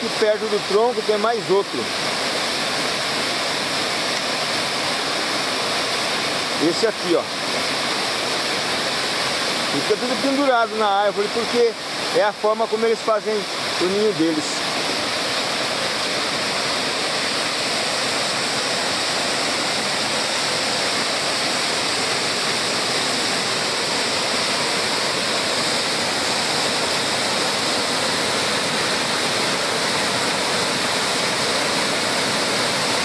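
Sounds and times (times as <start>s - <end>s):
waterfall rushing over rocks: 0.0s - 33.0s.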